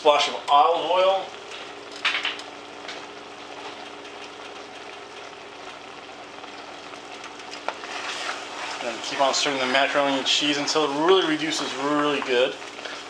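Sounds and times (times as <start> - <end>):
pots simmering and bubbling: 0.0 - 13.0.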